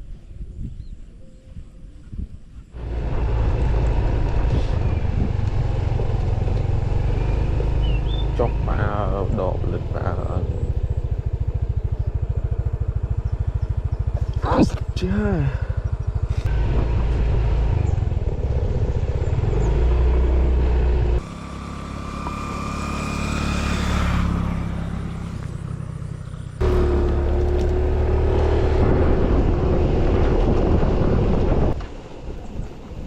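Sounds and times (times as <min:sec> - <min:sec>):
wind rumble on microphone: 0:00.0 - 0:21.2, 0:27.5 - 0:33.0
motorbike engine running: 0:02.8 - 0:31.8.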